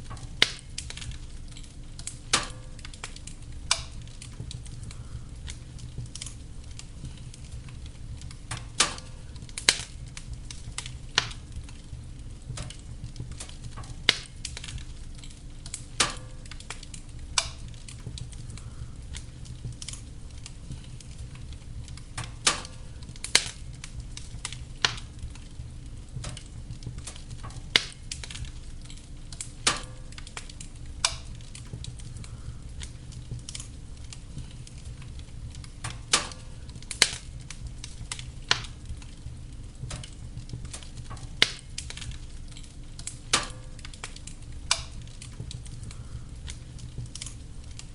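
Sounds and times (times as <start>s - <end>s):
fire crackling and popping: 0.0s - 47.9s
wood fire burning: 0.0s - 47.9s.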